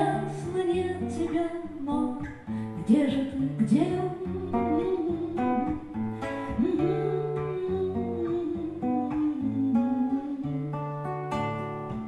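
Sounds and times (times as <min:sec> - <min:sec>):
classical guitar playing: 0:00.0 - 0:12.0.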